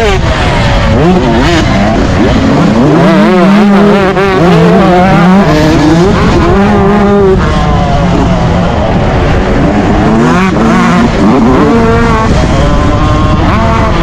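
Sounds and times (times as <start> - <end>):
motocross engine revving: 0.0 - 14.0.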